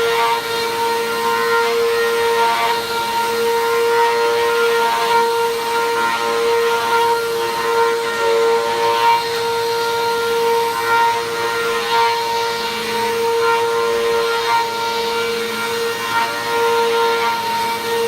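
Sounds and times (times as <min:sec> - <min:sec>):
vacuum cleaner running over rug: 0:00.0 - 0:18.0.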